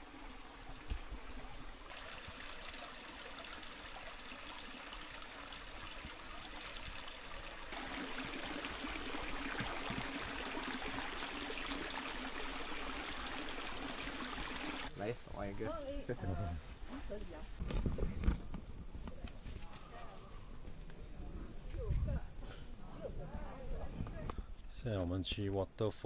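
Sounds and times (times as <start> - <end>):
stream trickling and splashing: 0.0 - 24.3.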